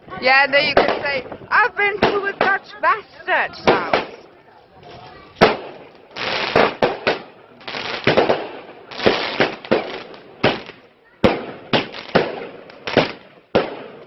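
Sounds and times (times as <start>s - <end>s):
fireworks crackling: 0.0s - 14.0s
fireworks bangs: 0.5s - 4.4s, 5.1s - 14.0s.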